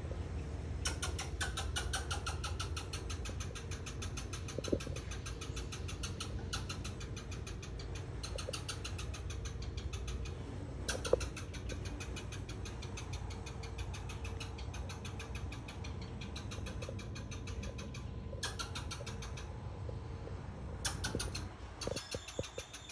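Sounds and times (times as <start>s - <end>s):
squirrel alarm chatter: 0.6s - 22.9s.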